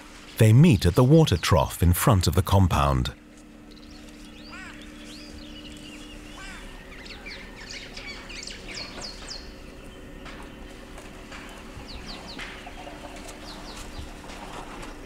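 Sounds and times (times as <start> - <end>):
birds chirping: 0.4 - 14.2.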